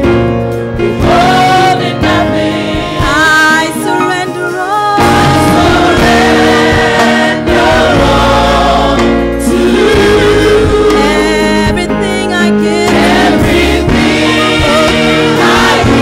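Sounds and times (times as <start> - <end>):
low musical accompaniment: 0.0 - 16.0
choir singing slow worship song: 0.5 - 16.0.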